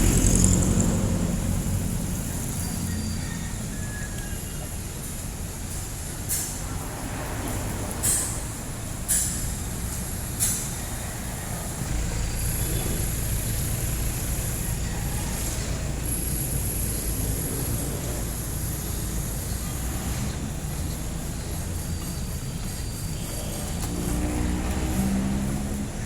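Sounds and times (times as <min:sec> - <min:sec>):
diesel engines rumbling in traffic: 0:00.0 - 0:26.0.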